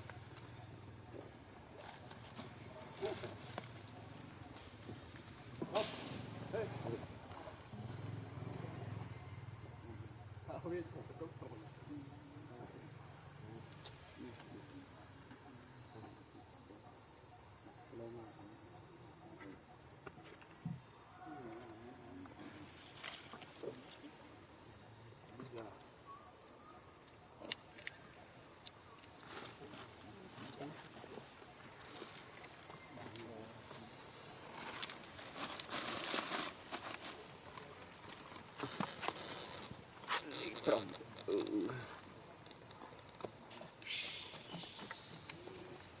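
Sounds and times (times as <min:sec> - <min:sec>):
insect chorus trilling: 0:00.0 - 0:46.0.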